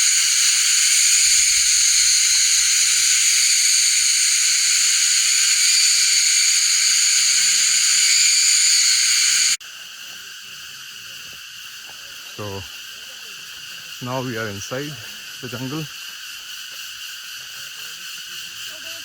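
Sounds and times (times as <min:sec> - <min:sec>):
cicada chorus drone: 0:00.0 - 0:19.0.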